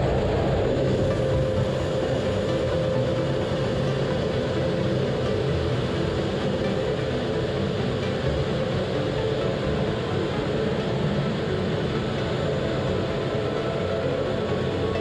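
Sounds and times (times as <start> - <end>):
jet engine and airflow rush: 0.0 - 15.0.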